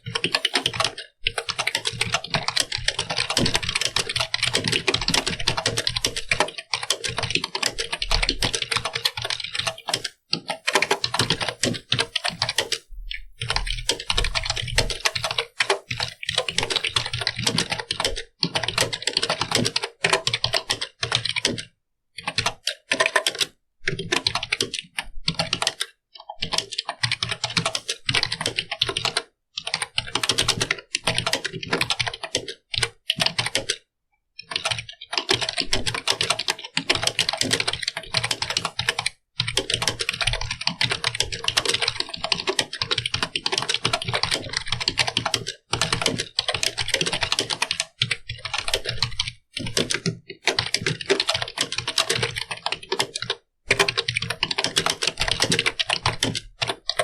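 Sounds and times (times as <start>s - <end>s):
keyboard typing: 0.0s - 33.8s, 34.4s - 57.0s.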